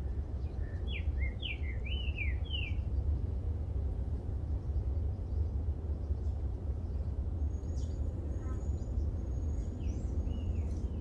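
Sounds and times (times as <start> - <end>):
birds whistling in distance: 0.0 - 3.3, 4.4 - 11.0
steady low rumble: 0.0 - 11.0.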